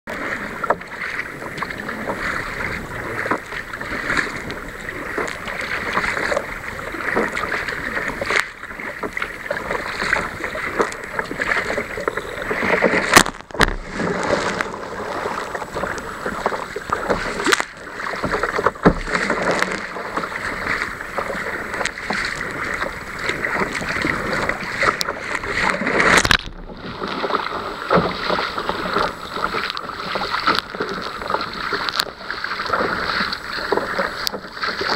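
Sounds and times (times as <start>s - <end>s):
wave breaking over bow: 0.1s - 31.8s
water splashing against kayak: 0.1s - 34.9s.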